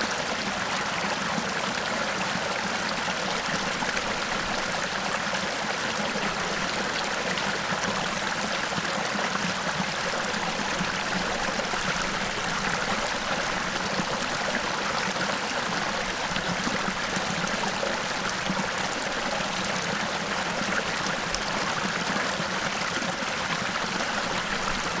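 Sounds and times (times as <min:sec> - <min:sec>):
small waterfall rushing: 0:00.0 - 0:25.0.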